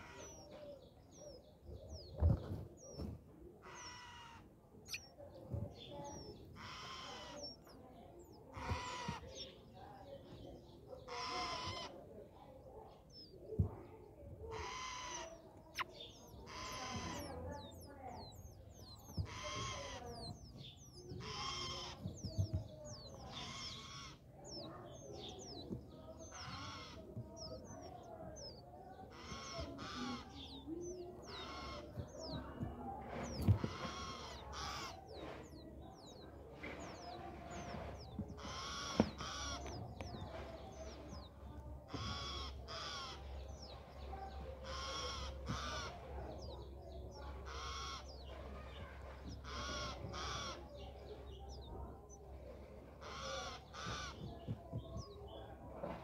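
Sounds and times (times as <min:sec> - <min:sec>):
harsh bird calls: 0:00.0 - 0:12.1, 0:14.4 - 0:56.0.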